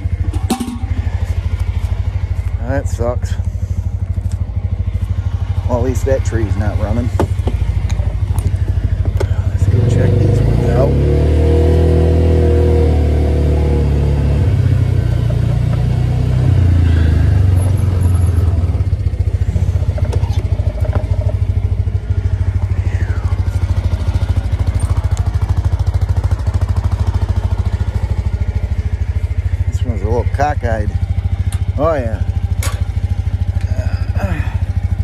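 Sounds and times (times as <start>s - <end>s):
utility vehicle engine idling: 0.0s - 35.0s.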